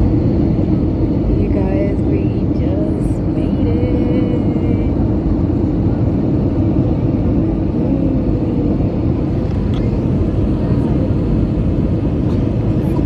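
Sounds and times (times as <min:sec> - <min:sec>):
faint wavering hums: 0:00.0 - 0:12.2
jet airliner cabin rumble: 0:00.0 - 0:13.0.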